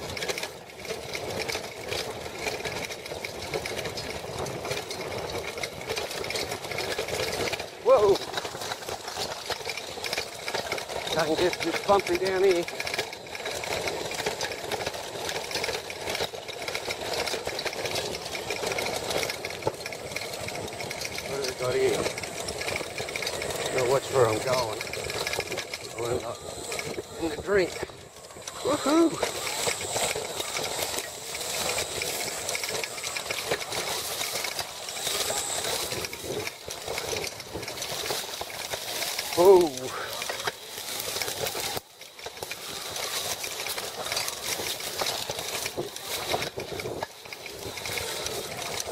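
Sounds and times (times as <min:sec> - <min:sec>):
bike fork clattering: 0:00.0 - 0:48.9
electric bike rattling: 0:00.0 - 0:48.9.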